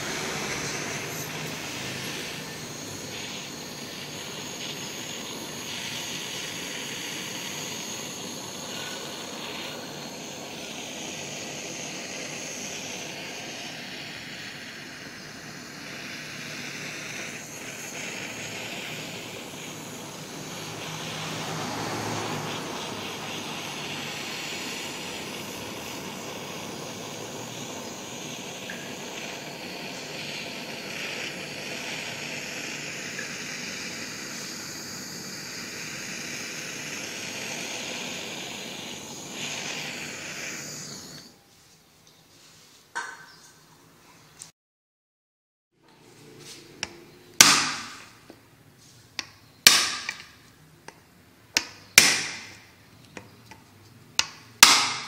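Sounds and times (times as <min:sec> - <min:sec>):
gas torch hissing: 0:00.0 - 0:41.4, 0:46.2 - 0:55.0.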